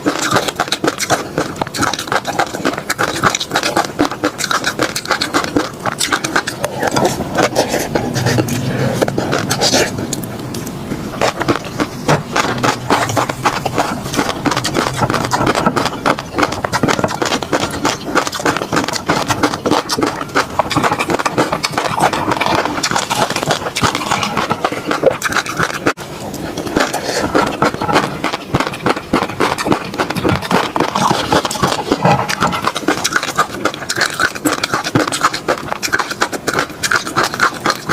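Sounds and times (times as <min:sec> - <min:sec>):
chewing and mouth sounds: 0:00.0 - 0:37.9.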